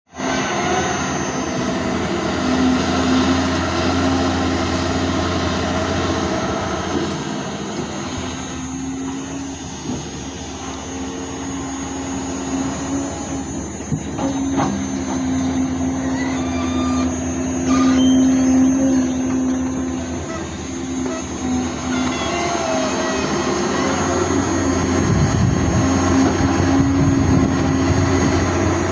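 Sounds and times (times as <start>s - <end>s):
excavator diesel engine running: 0.1s - 28.9s
high steady whine: 0.1s - 28.9s.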